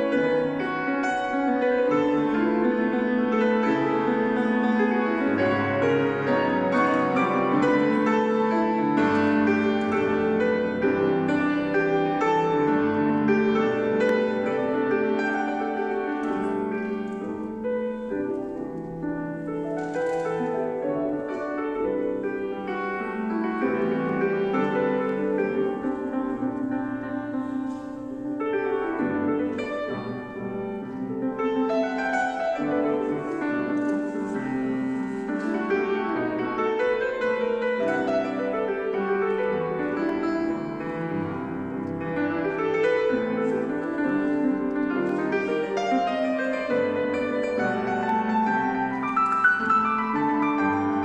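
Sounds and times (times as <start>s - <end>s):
solo jazz piano: 0.0s - 51.0s.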